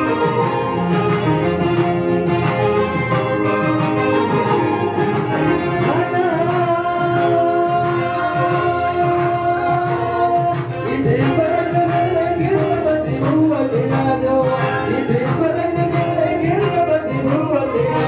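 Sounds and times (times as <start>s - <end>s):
person singing over a beat: 3.2s - 18.0s.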